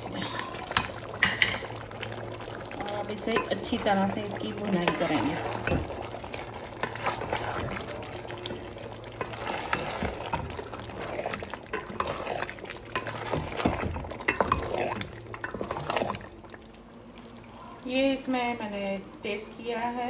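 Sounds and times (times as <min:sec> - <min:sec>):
chicken sizzling in a pot: 0:00.0 - 0:20.0.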